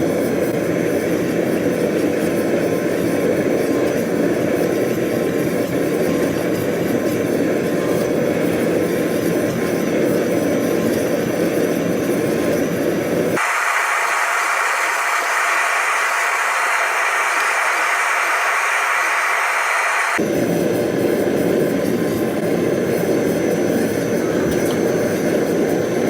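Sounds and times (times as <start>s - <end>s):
high hissy machine noise: 0.0s - 26.0s
workshop equipment roaring: 0.0s - 26.0s.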